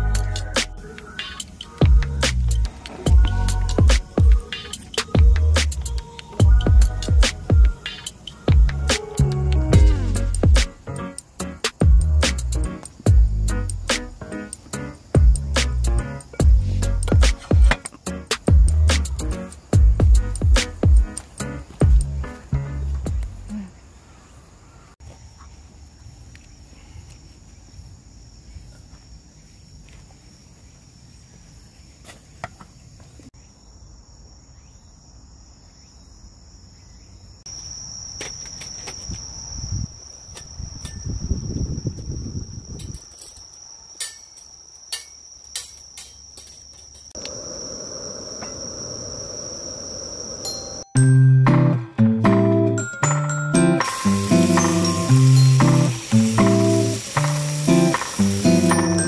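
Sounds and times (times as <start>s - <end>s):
insects chirring: 0.0s - 51.2s, 53.5s - 59.0s.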